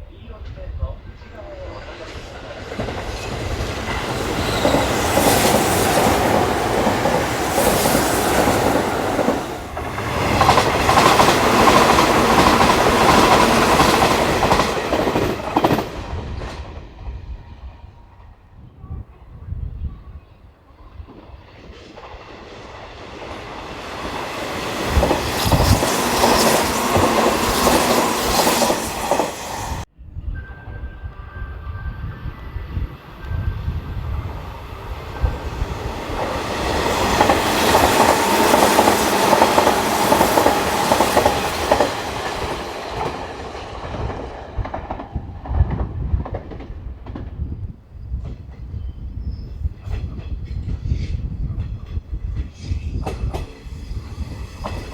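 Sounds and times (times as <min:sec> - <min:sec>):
electric trains passing: 0:00.0 - 0:19.9, 0:20.5 - 0:54.9.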